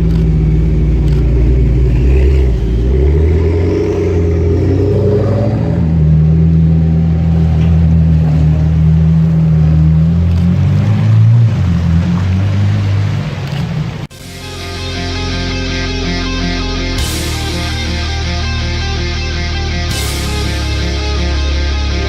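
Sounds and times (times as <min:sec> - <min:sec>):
sports car engine running: 0:00.0 - 0:11.9, 0:13.0 - 0:22.0.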